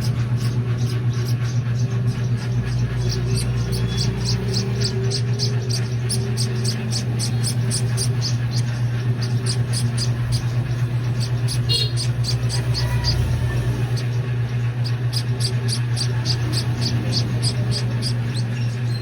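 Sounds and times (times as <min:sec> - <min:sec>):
baby bird cheeping: 0:00.0 - 0:19.0
steady low hum: 0:00.0 - 0:19.0.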